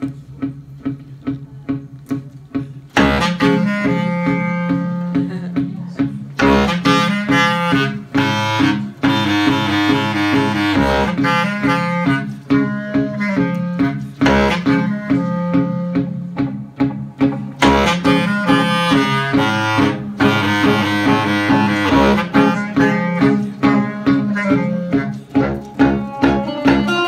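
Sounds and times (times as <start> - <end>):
electric guitar picking rhythm: 0.0 - 27.0
mandolin picking rhythm: 0.0 - 27.0
bass clarinet melody: 2.9 - 5.7, 6.4 - 16.8, 17.6 - 27.0.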